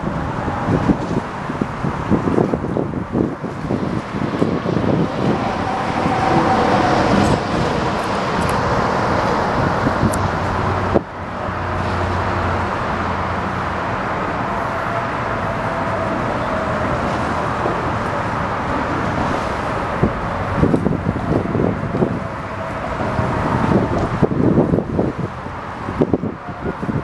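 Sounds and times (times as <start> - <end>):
low engine rumble: 0.0 - 27.0
outdoor noise: 0.0 - 27.0.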